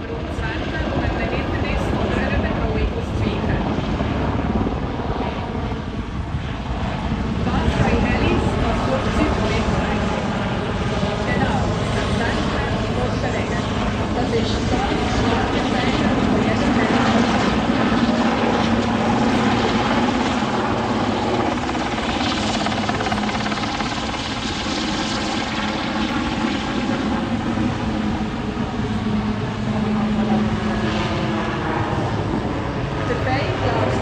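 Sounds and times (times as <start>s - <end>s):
helicopter rotor and turbines: 0.0s - 34.0s.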